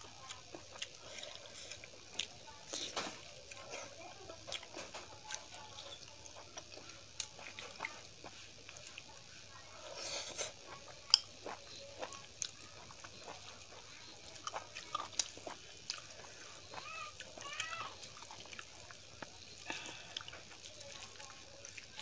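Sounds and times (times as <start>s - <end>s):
food squelching in hand: 0.2s - 22.0s.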